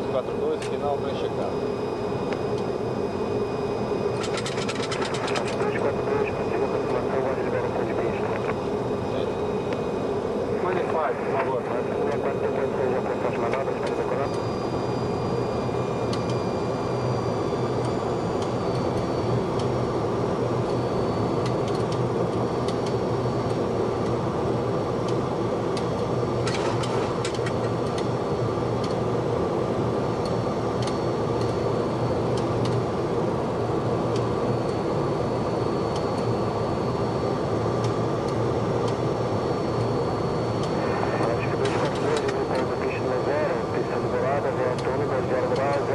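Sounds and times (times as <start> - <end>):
thin high whine: 0.0 - 24.6, 33.1 - 45.9
airflow and engine hum: 0.0 - 45.9.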